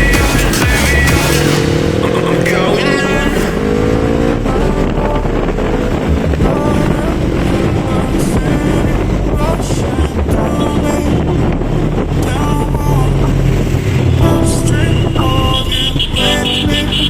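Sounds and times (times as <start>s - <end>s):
motorcycle engine accelerating: 0.0s - 17.0s
road and wind noise: 0.0s - 17.0s.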